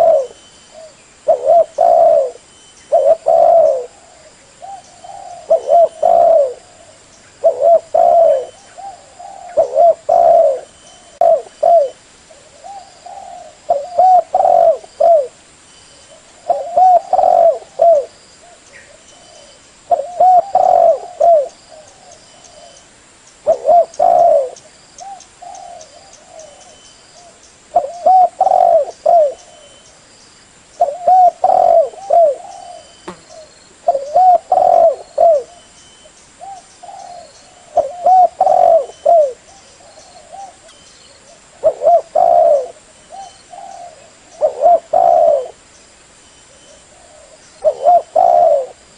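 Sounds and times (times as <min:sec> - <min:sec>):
dove cooing: 0:00.0 - 0:15.4, 0:16.1 - 0:22.8, 0:23.4 - 0:29.8, 0:30.8 - 0:35.7, 0:36.4 - 0:45.6, 0:46.5 - 0:48.9.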